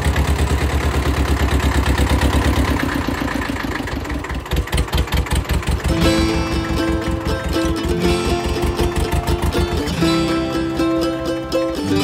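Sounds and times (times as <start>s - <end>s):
tractor diesel engine: 0.0s - 12.0s.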